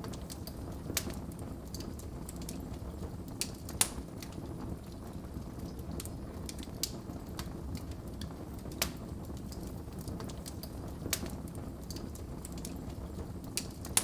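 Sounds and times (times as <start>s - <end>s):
fire crackling and snapping: 0.0s - 14.0s
low rumble of flames: 0.0s - 14.0s.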